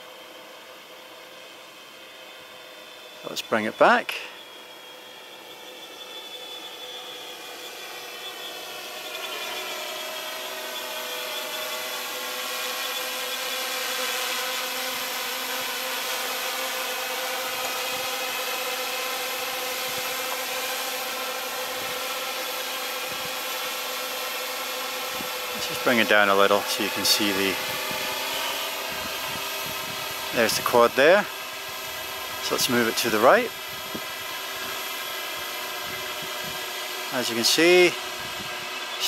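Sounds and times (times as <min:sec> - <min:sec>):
quadcopter propellers buzzing: 0:00.0 - 0:39.0.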